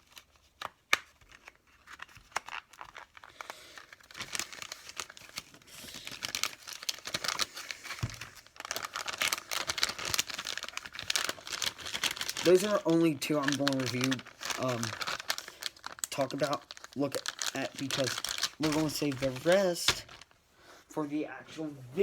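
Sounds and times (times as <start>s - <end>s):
plastic packaging crinkling: 0.0s - 20.5s.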